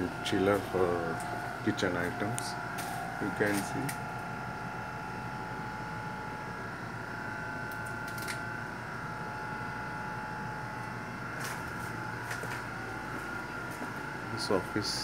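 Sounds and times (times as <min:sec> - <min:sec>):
refrigeration compressors and fans humming: 0:00.0 - 0:15.0.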